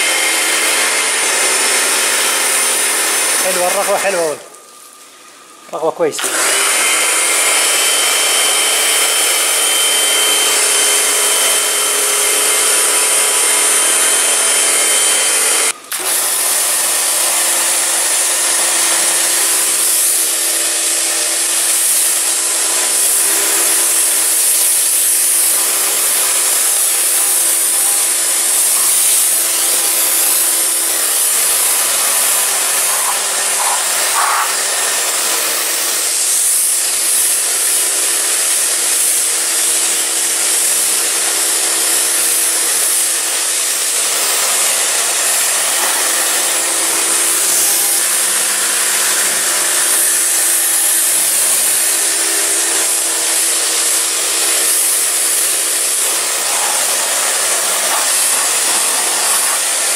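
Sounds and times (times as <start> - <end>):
high-pressure water jet hissing: 0.0 - 59.9
pressure washer pump humming: 0.0 - 59.9.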